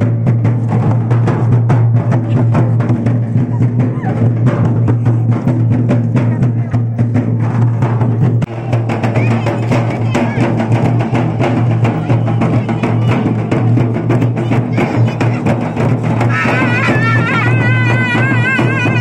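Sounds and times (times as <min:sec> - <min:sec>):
fast live drums: 0:00.0 - 0:19.0.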